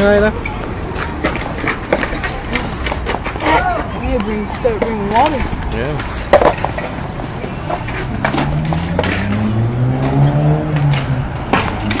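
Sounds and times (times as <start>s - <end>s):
skateboard clack on concrete: 0.0s - 12.0s
vehicle engine humming: 0.0s - 12.0s.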